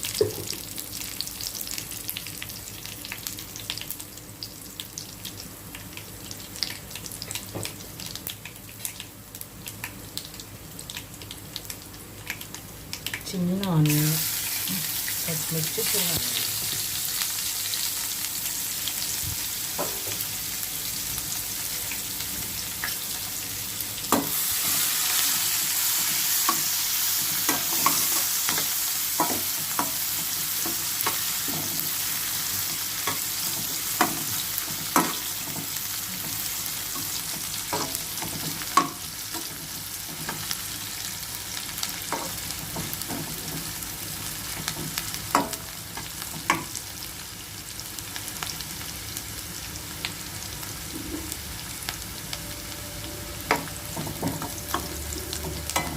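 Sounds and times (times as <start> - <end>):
food sizzling in oil: 0.0 - 55.9.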